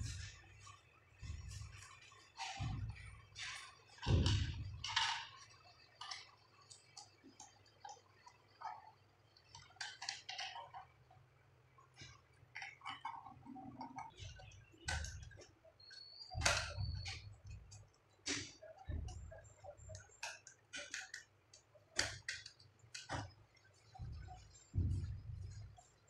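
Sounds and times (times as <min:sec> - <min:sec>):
plastic and metal clicks and scrapes: 0:02.3 - 0:11.0, 0:11.9 - 0:26.0.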